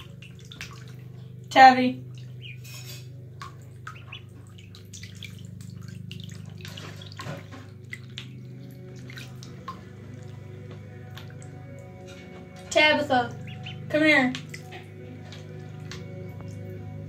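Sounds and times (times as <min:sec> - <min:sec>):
light water splashing: 0:00.0 - 0:17.0
steady low hum: 0:00.0 - 0:17.0.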